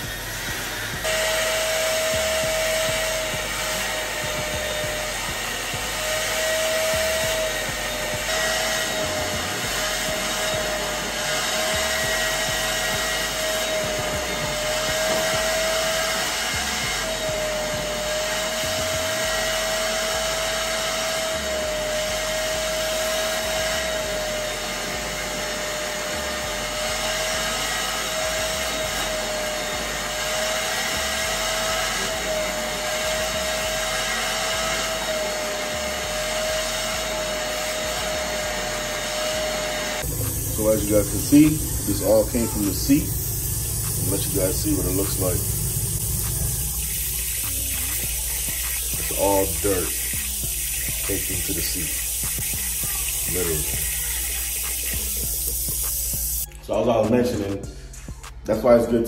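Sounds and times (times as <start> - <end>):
shampooer motor whining: 0.0 - 56.8.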